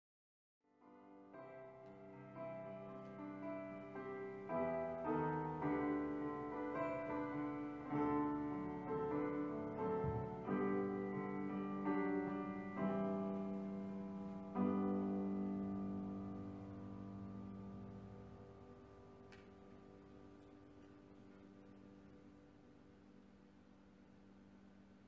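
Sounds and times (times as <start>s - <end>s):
solo piano music: 0.7s - 25.0s.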